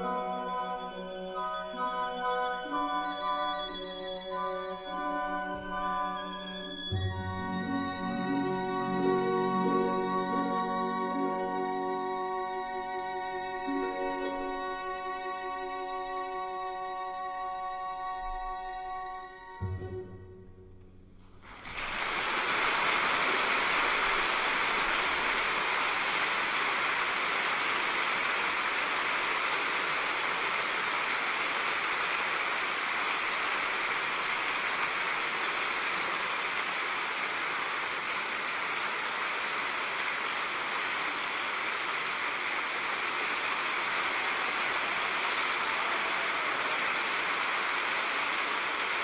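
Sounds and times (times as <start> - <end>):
audience clapping: 0.0 - 18.8, 21.4 - 49.0.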